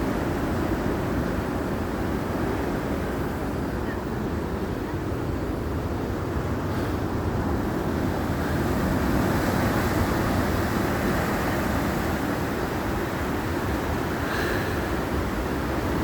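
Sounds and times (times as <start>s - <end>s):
sea waves breaking: 0.0s - 16.0s.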